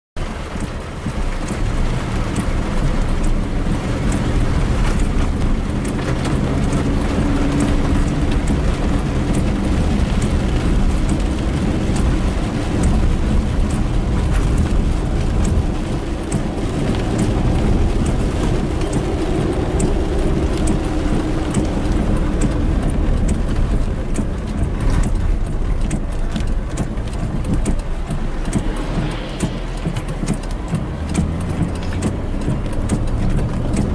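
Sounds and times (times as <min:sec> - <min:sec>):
car driving on wet road: 0:00.2 - 0:33.9
heavy rain on car windshield: 0:00.2 - 0:33.9.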